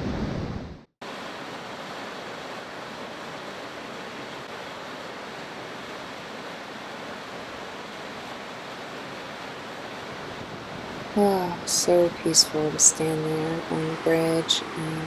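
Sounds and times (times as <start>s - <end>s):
river rushing over falls: 1.0s - 13.8s.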